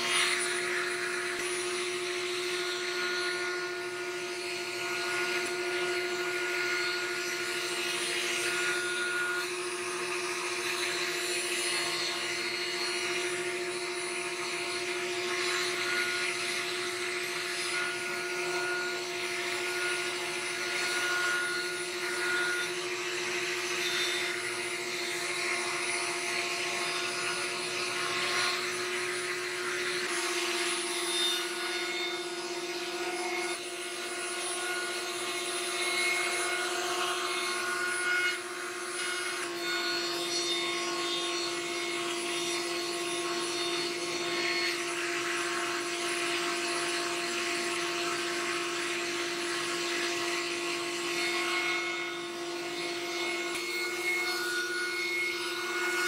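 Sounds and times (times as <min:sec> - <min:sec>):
router cutting wood hiss: 0:00.0 - 0:56.0
router motor whine: 0:00.0 - 0:56.0.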